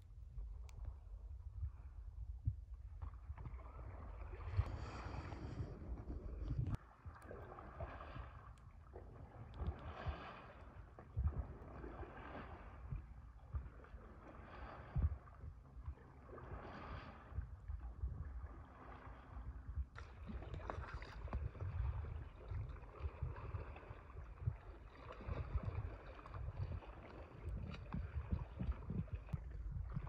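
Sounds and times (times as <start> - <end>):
wind rumble on microphone: 0.0 - 30.0
paddle strokes swishing through water: 0.4 - 30.0.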